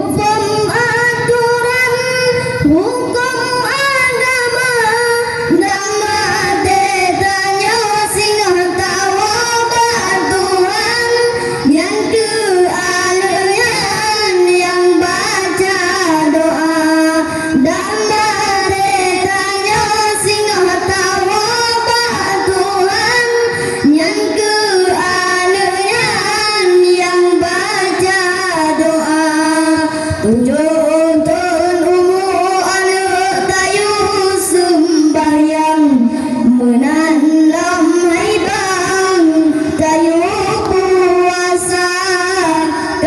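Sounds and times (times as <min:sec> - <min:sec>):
boys singing through a pa: 0:00.0 - 0:43.0.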